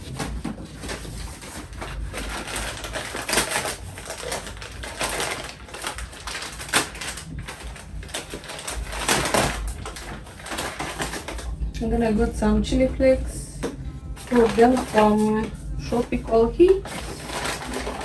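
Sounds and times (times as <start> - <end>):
grocery packaging rustling: 0.0 - 18.0.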